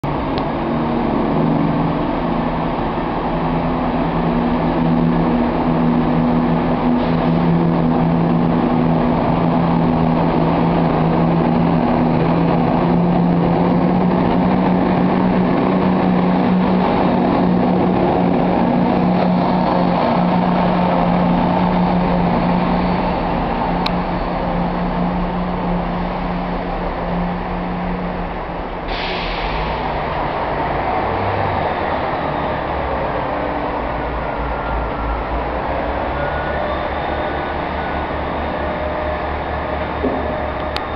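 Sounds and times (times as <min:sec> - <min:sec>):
diesel train engines droning: 0:00.0 - 0:40.9
train rumble: 0:00.0 - 0:40.9.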